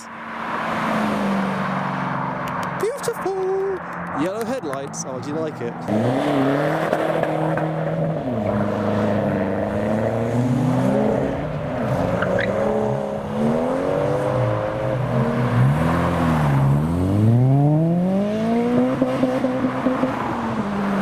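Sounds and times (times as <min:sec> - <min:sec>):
car engines revving past: 0:00.0 - 0:03.0, 0:03.8 - 0:21.0.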